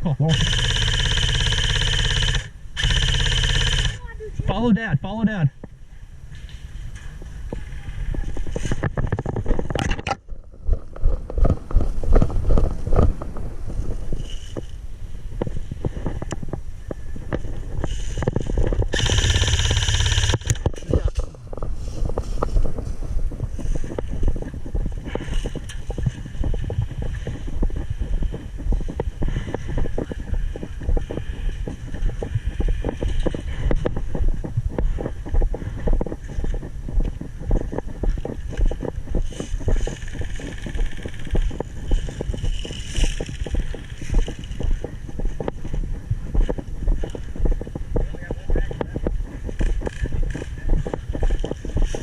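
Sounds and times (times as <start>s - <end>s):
heavy low rumble: 3.9s - 52.0s
clothing rubbing on microphone: 6.4s - 18.9s, 20.6s - 52.0s.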